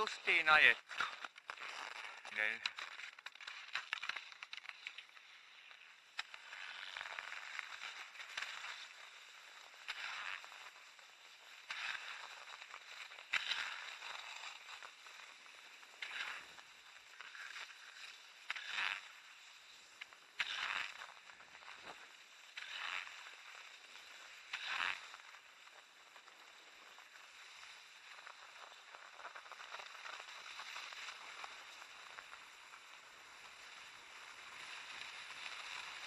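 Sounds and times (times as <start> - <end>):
skis swishing on snow: 0.0 - 36.0.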